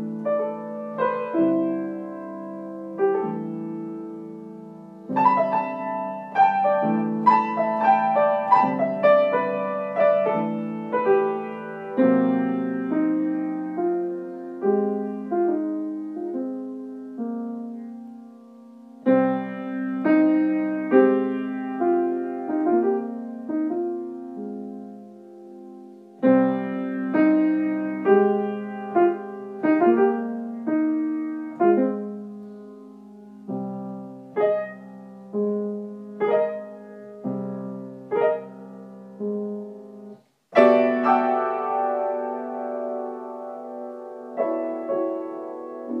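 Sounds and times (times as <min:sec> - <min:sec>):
solo piano: 0:00.0 - 0:46.0.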